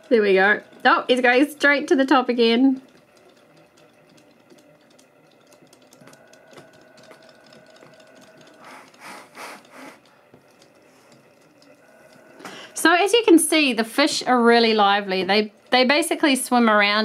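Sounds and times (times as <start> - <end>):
small motors whirring: 0.0 - 17.0.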